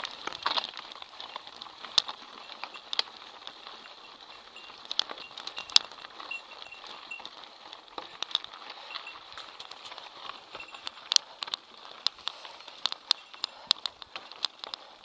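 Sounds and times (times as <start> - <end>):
bike rattling and clacking: 0.0 - 15.0
tyres crunching on loose stones: 0.0 - 15.0.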